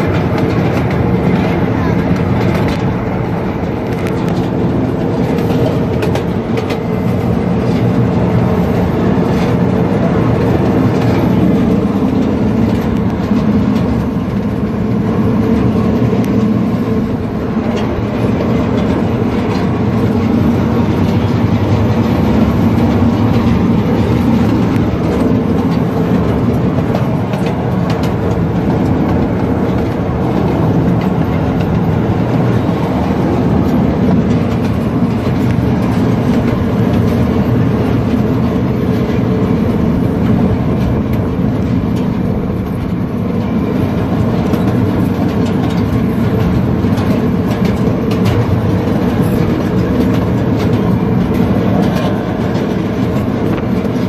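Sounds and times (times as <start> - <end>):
miniature train rumbling: 0.0 - 54.0
wheels clicking on rails: 0.0 - 54.0.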